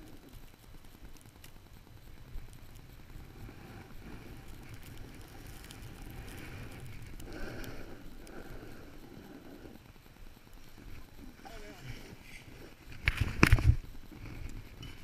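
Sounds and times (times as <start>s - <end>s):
skis scraping on snow: 1.6s - 15.0s.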